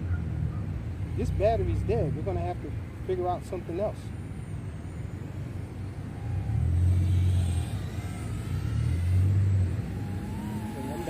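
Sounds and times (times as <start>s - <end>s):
quadcopter motors whining: 0.1s - 11.0s.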